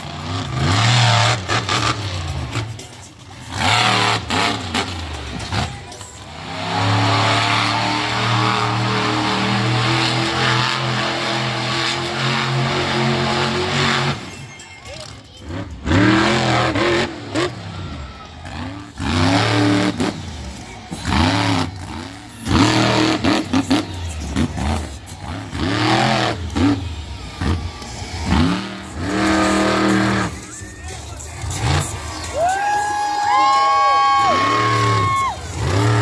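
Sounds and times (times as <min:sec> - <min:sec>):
monster truck engine revving: 0:00.0 - 0:36.0.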